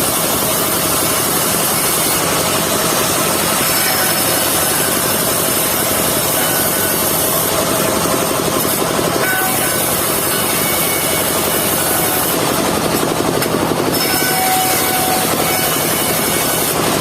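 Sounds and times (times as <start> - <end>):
engine running: 0.0 - 17.0
sawmill blade cutting log: 0.0 - 17.0.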